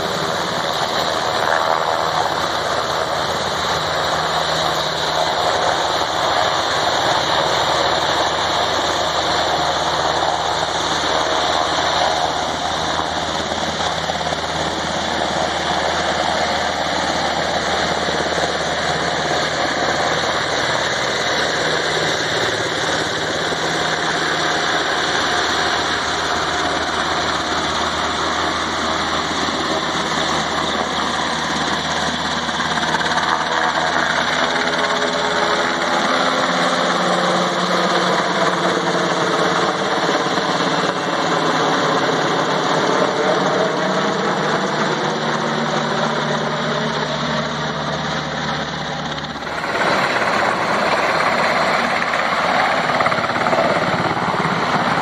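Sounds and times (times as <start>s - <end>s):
helicopter rotors and engines: 0.0s - 55.0s.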